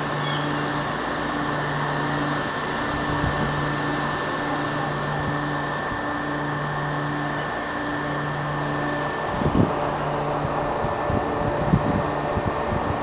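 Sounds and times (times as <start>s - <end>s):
mechanical hum and hiss: 0.0s - 13.0s
thin whine: 0.0s - 13.0s.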